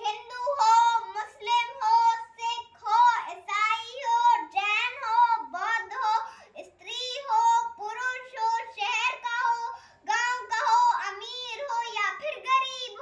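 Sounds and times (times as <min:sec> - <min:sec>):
girl singing: 0:00.0 - 0:13.0.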